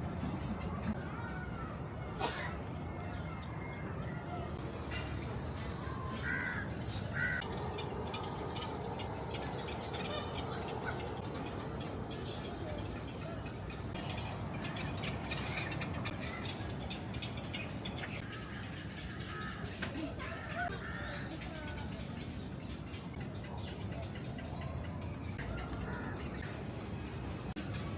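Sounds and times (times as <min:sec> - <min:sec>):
harsh bird calls: 0:00.2 - 0:26.9.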